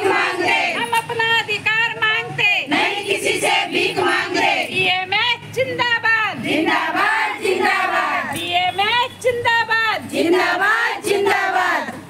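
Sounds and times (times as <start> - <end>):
women chanting slogans: 0.0 - 12.0.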